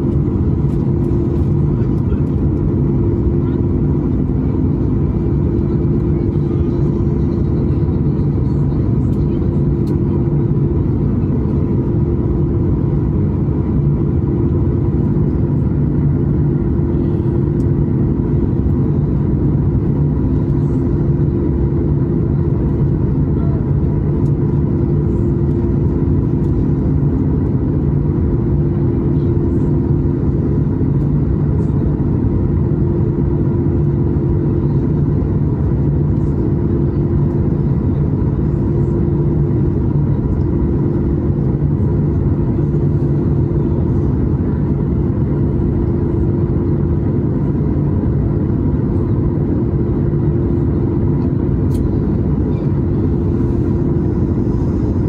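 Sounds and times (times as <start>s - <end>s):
jet engine rumble in cabin: 0.0s - 55.0s
steady hums: 0.0s - 55.0s.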